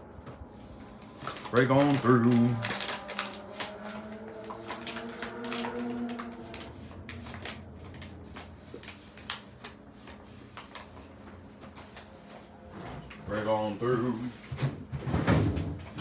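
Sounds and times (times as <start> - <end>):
paper bag crinkling: 0.6 - 14.4.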